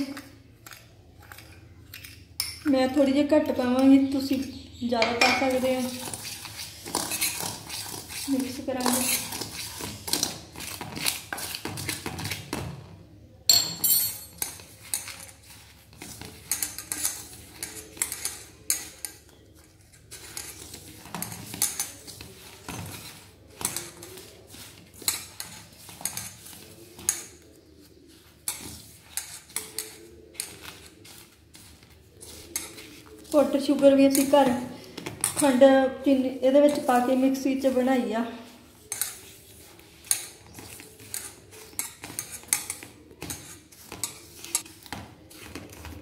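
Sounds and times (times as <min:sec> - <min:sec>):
hand mixing in steel bowl: 0:00.0 - 0:12.8, 0:14.3 - 0:46.0.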